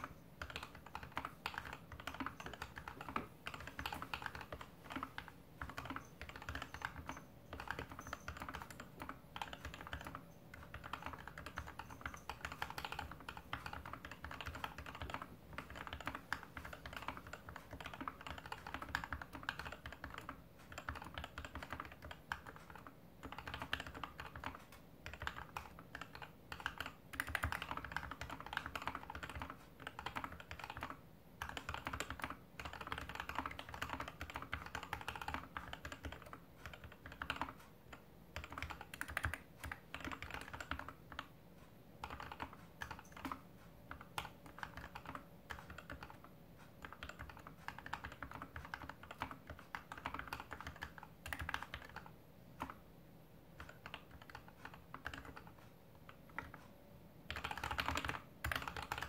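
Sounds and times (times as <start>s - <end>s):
mechanical keyboard typing: 0.0s - 41.4s, 42.0s - 52.9s, 53.5s - 59.0s.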